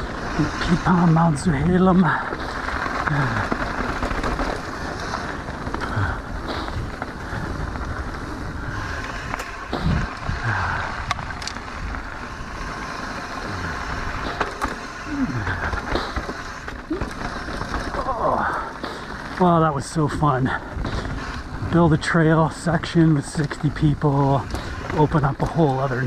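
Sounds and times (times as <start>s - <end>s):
bike rattling over bumps: 0.0s - 26.0s
bike tyres rolling on dirt: 0.0s - 26.0s.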